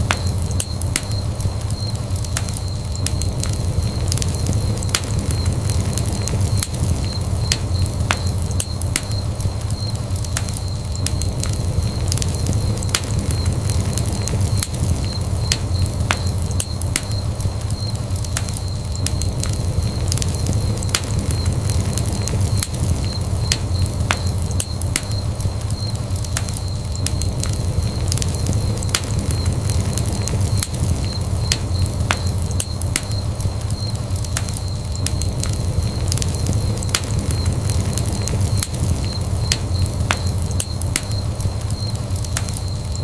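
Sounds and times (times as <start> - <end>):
faint steady high tone: 0.0 - 43.0
fire popping and snapping: 0.0 - 43.0
wood fire crackling: 0.0 - 43.0.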